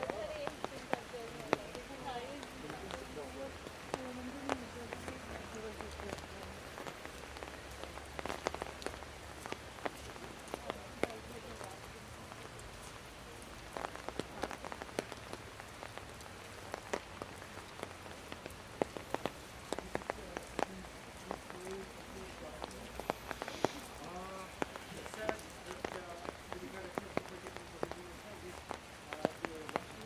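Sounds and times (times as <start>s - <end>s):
rain falling: 0.0s - 30.0s
raindrops tapping close by: 0.0s - 30.0s.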